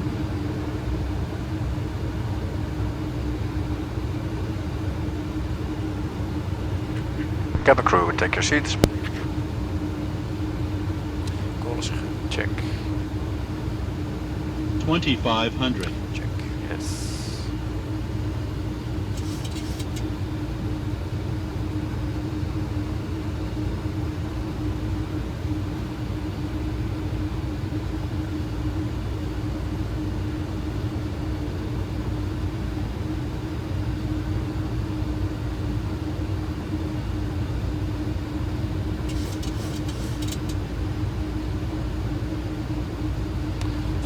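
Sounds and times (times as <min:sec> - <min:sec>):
constant hum: 0:00.0 - 0:44.0
rumble of airflow and engines: 0:00.0 - 0:44.0.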